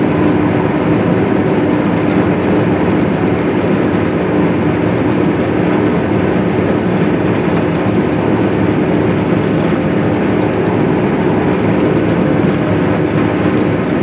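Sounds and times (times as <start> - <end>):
steady hum: 0.0 - 14.0
swather machine drone: 0.0 - 14.0.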